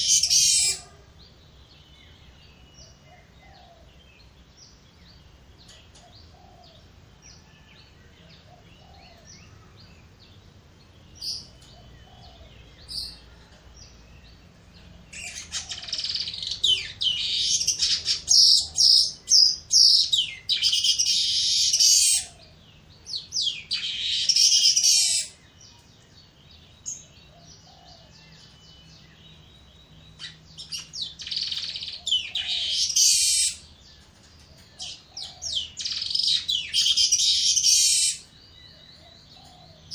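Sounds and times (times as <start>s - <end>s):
weaver birds chattering song: 0.0s - 39.9s.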